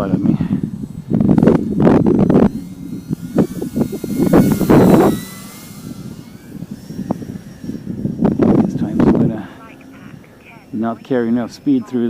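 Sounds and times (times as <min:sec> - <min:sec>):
wind rumbling on microphone: 0:00.0 - 0:11.7
model plane motor whine: 0:00.0 - 0:12.0.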